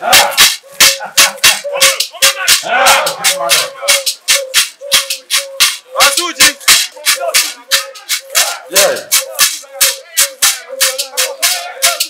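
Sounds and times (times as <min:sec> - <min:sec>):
shaker rattle beaten rhythmically: 0:00.0 - 0:12.0
voices calling out: 0:00.0 - 0:12.0.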